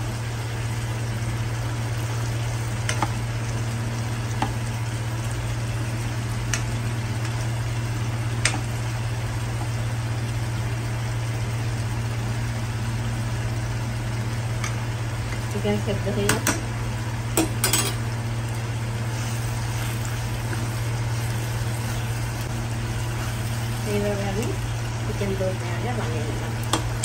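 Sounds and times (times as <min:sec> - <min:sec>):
curry sizzling in a pan: 0:00.0 - 0:27.0.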